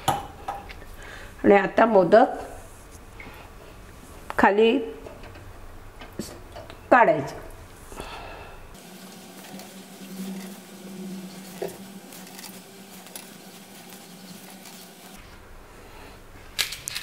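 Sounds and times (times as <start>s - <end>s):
steady low hum: 2.3s - 16.6s.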